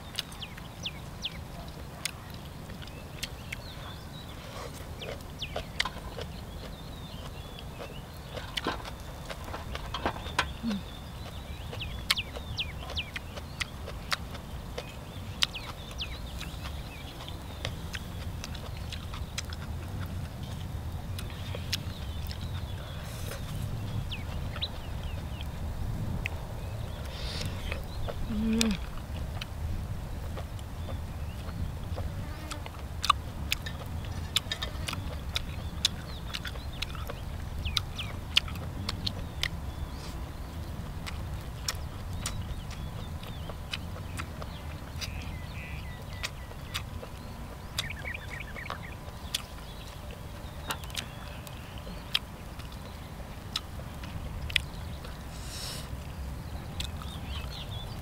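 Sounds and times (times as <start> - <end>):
chewing and lip smacks: 0.0 - 25.6, 26.2 - 58.0
low background rumble: 0.0 - 58.0.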